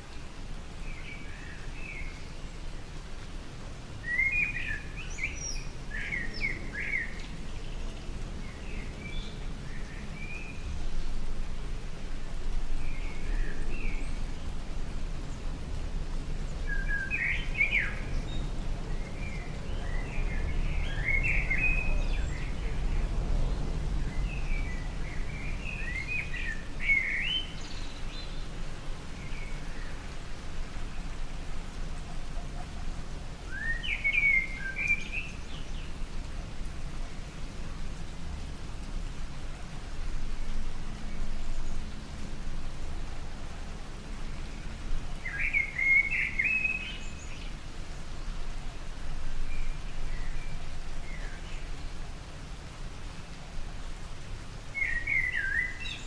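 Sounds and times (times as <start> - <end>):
light rain falling: 0.0 - 56.0
songbird chirping: 0.0 - 56.0.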